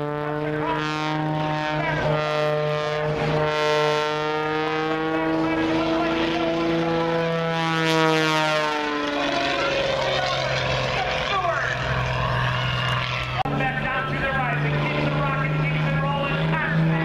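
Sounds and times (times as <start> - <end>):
propeller airplane engine droning: 0.0 - 17.0.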